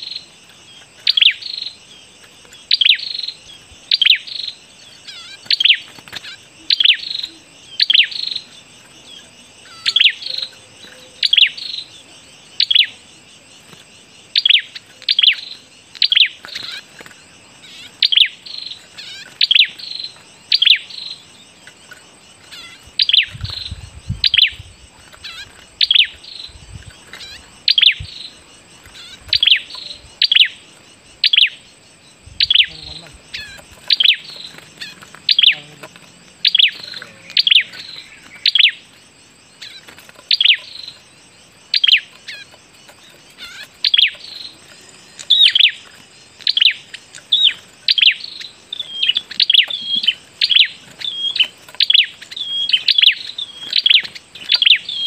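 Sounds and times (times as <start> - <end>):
small bird calling: 0.0 - 55.0.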